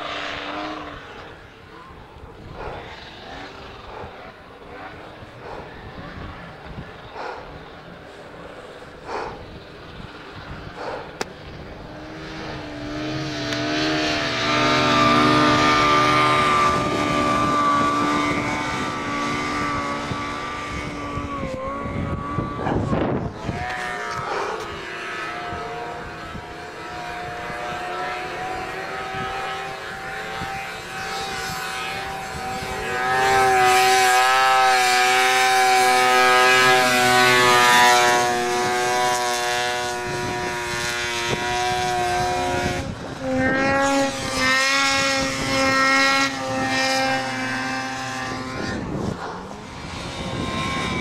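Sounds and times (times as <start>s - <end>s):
snowmobile engines revving high: 0.0s - 51.0s.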